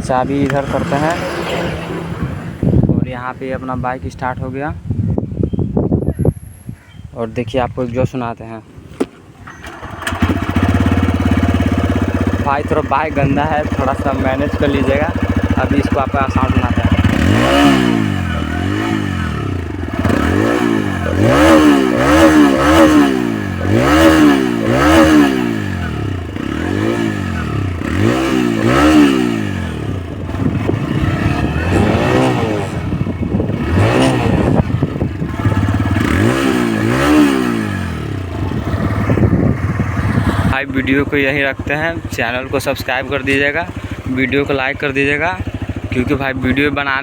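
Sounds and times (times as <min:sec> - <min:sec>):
motorcycle engine revving: 0:00.0 - 0:04.2, 0:09.4 - 0:47.0
motorcycle engine idling: 0:09.3 - 0:47.0.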